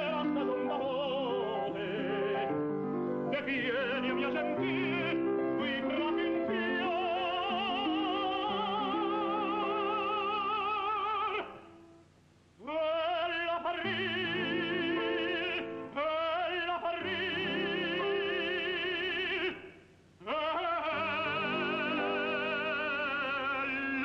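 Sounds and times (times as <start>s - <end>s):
piano accompaniment: 0.0s - 10.6s, 13.7s - 19.6s, 20.7s - 24.0s
operatic tenor singing: 0.0s - 11.9s, 12.6s - 24.0s.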